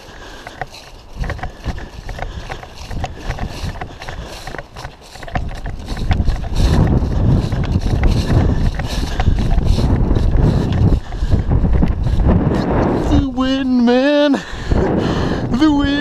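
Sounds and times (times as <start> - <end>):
gear and rifle clicking: 0.0 - 13.9
footsteps on grass: 0.0 - 14.5
wind rumble on microphone: 0.0 - 16.0.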